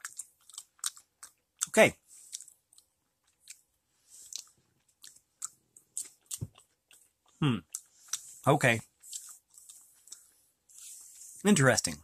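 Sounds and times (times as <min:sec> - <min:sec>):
person chewing popcorn: 0:00.0 - 0:12.0.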